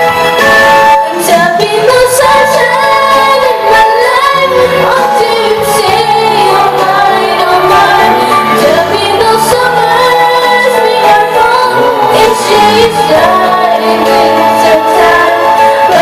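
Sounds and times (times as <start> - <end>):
instrumental backing track: 0.0 - 16.0
woman singing: 1.0 - 16.0.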